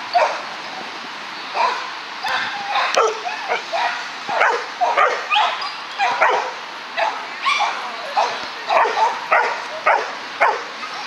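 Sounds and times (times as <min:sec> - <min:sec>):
dog barking: 0:01.6 - 0:10.7.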